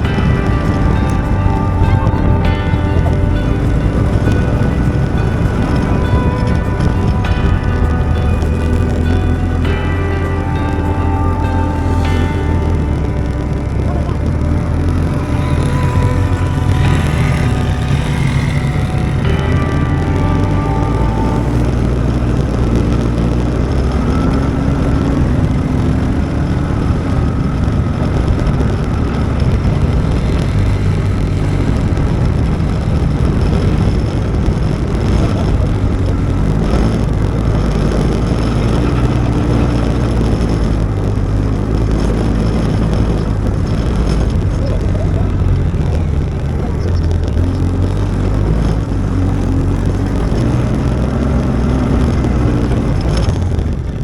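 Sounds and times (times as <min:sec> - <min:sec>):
small motorbike engine revving: 0:00.0 - 0:54.0
steady rush of noise: 0:00.0 - 0:54.0.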